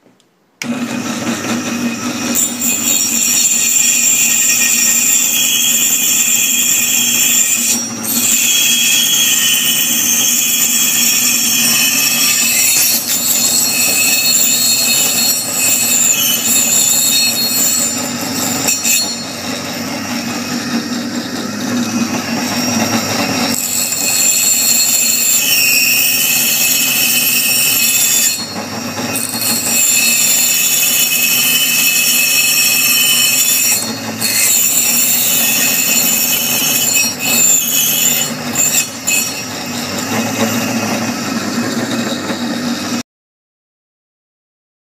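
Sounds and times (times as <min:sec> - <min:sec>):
machine screeching and grinding: 0:00.6 - 0:43.0.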